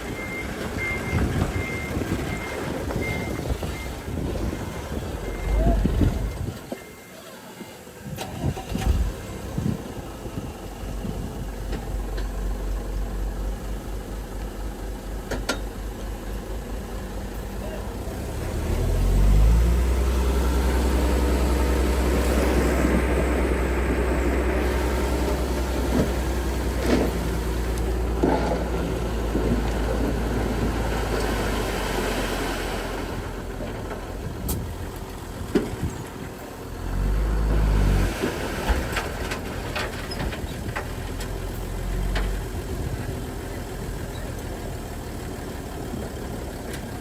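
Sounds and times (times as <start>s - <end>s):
heavy machinery diesel engine rumble: 0.0s - 47.0s.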